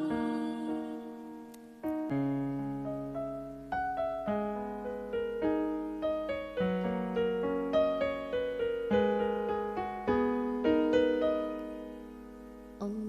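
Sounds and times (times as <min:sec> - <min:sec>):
gentle piano notes and chords: 0:00.0 - 0:13.0.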